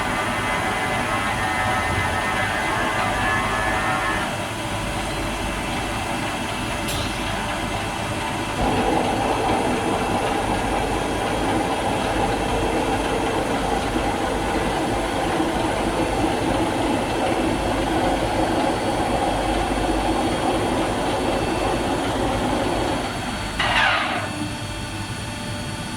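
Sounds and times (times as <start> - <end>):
milling machine running: 0.0 - 24.5.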